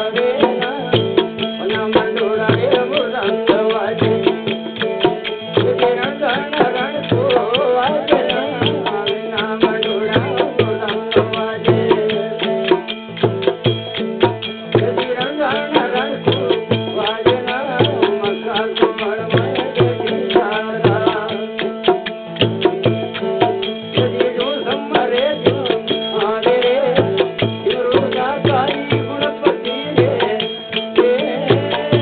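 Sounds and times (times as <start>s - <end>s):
tabla drum beat: 0.0s - 32.0s.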